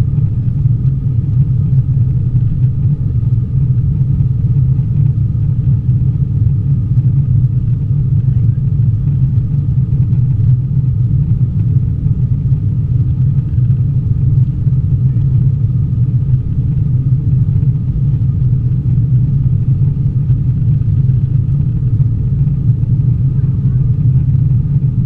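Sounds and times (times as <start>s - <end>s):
faint high whine: 0.0s - 25.0s
jet engine and airflow rumble: 0.0s - 25.0s.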